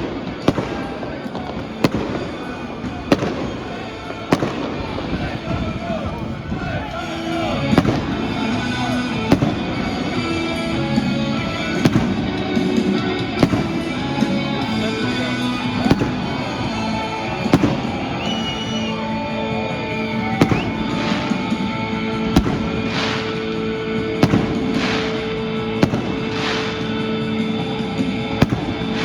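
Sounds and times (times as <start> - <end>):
fireworks bangs: 0.0 - 29.0
music playing: 0.0 - 29.0.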